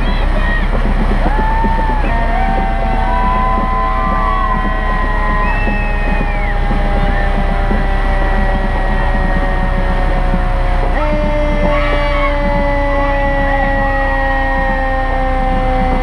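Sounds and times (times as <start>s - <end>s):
long steady tones sinking in pitch: 0.0s - 16.0s
truck engine rumbling: 0.0s - 16.0s.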